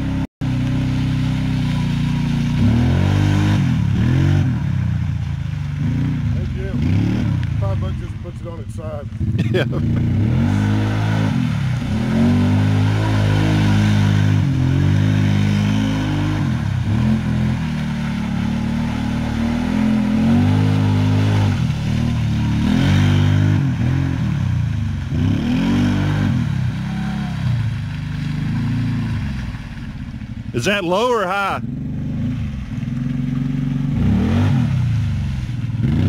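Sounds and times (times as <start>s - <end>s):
utv engine revving hard: 0.0s - 5.0s, 5.7s - 7.8s, 9.1s - 29.5s, 30.6s - 36.0s.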